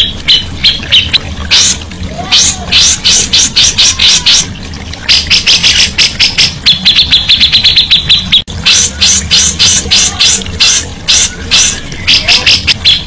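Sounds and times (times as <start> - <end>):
songbird chirping and trilling: 0.0 - 13.0
steady low hum: 0.0 - 13.0.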